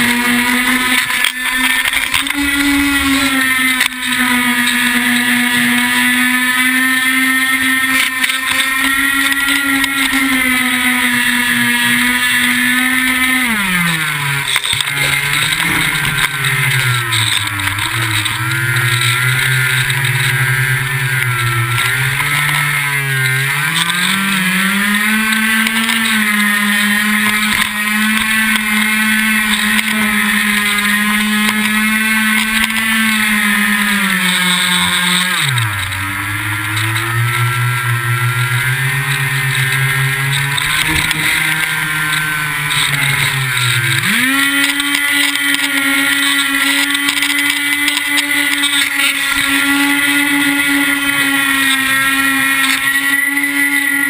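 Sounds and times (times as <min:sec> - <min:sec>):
model plane motor buzzing: 0:00.0 - 0:54.0.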